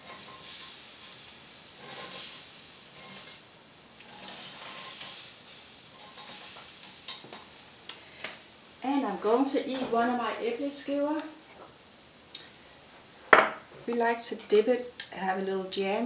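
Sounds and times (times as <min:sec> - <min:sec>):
batter sizzling in pan: 0:00.0 - 0:16.0.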